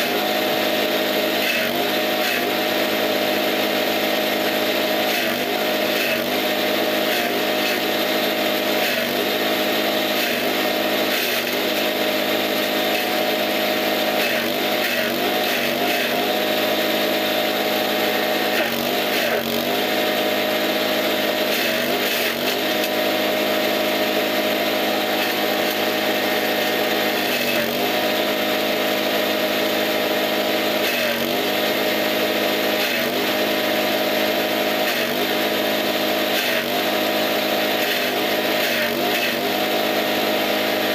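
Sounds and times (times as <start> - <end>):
chopper cutting fodder: 0.0 - 40.9
small engine running: 0.0 - 40.9.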